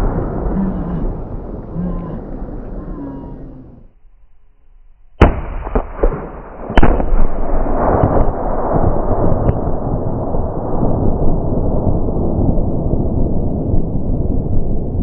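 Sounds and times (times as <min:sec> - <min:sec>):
explosion blasts: 0:00.0 - 0:04.0, 0:05.1 - 0:15.0
dense rumble: 0:00.0 - 0:15.0.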